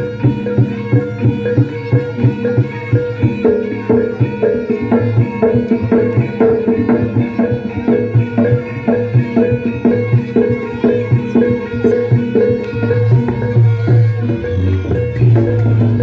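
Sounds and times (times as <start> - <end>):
hand drum strokes: 0.0 - 16.0
ringing metallophone and gong tones: 0.0 - 16.0.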